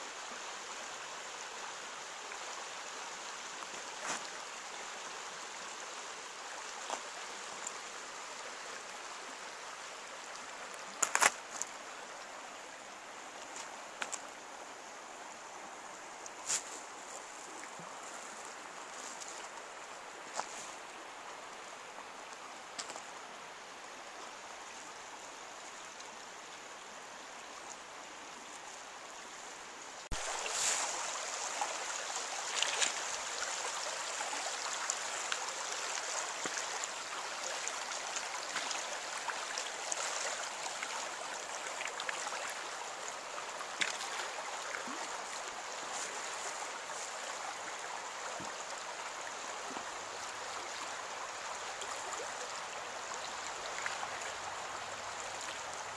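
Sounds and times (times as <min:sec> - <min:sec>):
rushing water hiss: 0:00.0 - 0:55.9.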